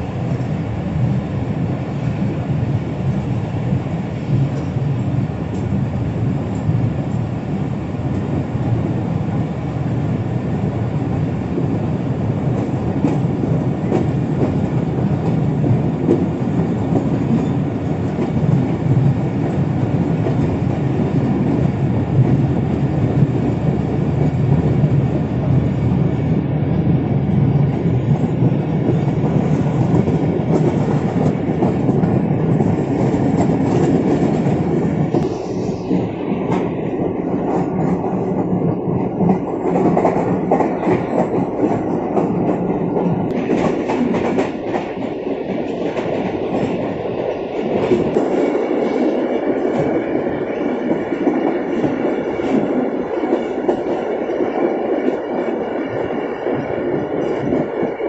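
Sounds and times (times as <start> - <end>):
train coach rumbling: 0.0 - 58.0.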